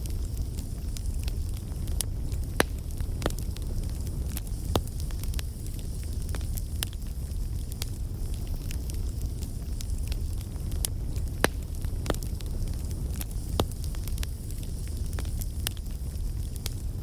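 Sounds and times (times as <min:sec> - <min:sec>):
bonfire flames rumbling: 0:00.0 - 0:17.0
fire crackling and popping: 0:00.0 - 0:17.0.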